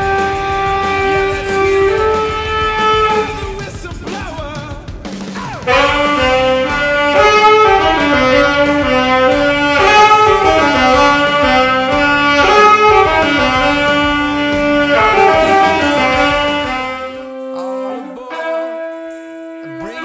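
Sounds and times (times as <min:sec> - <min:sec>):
saxophones playing in harmony: 0:00.0 - 0:03.8, 0:05.6 - 0:20.0.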